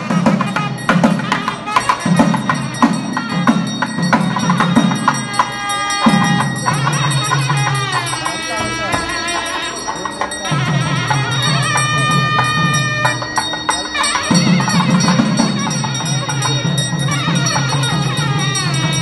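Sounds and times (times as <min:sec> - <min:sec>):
fast steady drumming: 0:00.0 - 0:19.0
long held note: 0:00.0 - 0:19.0
ringing metallic percussion: 0:00.0 - 0:19.0.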